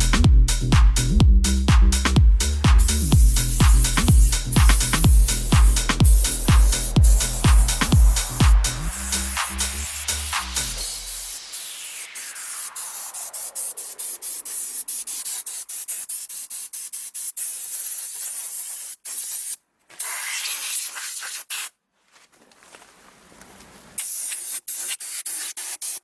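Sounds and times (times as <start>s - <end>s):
abrasive blasting gun hissing: 2.4s - 21.7s, 24.0s - 26.0s.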